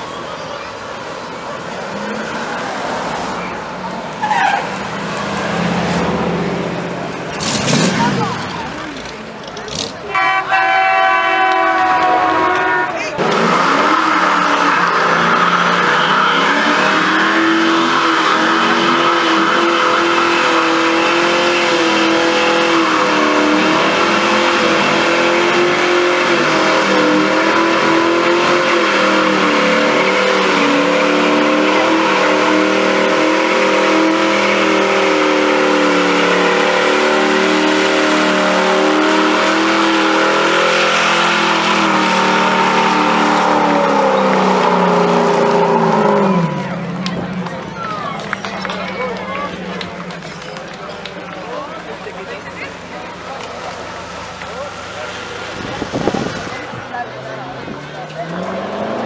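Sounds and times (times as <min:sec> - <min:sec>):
car engine at high revs: 0:00.0 - 0:10.2, 0:11.6 - 0:59.0
tyres screeching on asphalt: 0:00.0 - 0:59.0.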